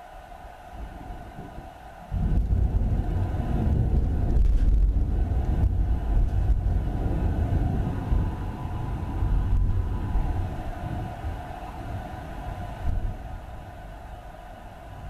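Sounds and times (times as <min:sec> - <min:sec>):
thunder rolling rumble: 0:00.8 - 0:13.6.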